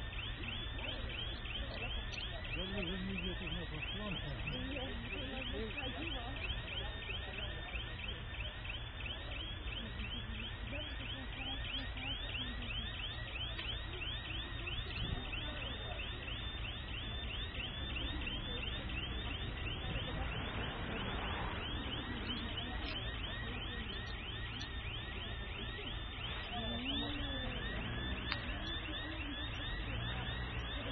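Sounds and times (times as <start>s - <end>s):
electronic siren rising sweeps: 0.0s - 30.9s.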